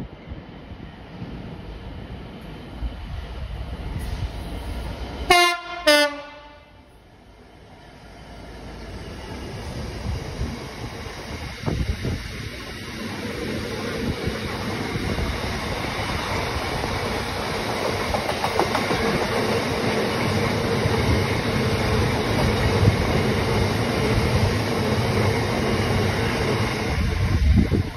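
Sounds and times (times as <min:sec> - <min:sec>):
train wheels on rails: 0:00.0 - 0:27.9.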